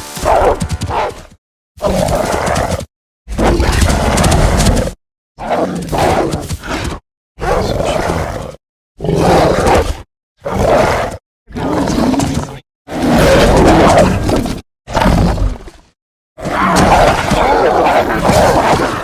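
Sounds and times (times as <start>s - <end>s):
wolf growling and snarling: 1.8s - 15.8s, 16.4s - 19.0s.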